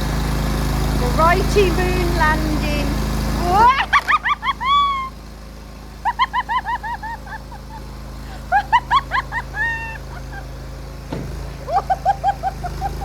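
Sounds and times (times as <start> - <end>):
small loader engine running: 0.0 - 13.0.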